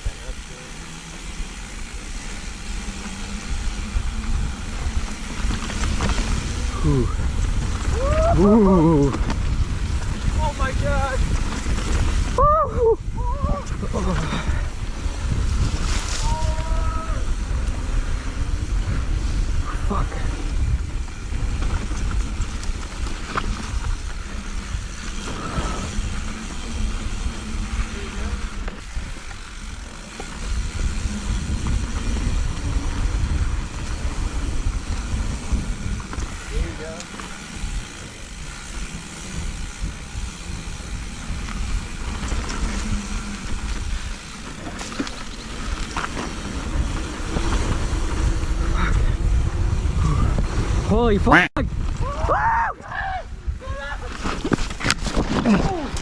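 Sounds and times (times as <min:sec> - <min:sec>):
mountain bike rolling and rattling: 0:00.0 - 0:56.0
wind buffeting microphone: 0:02.7 - 0:56.0.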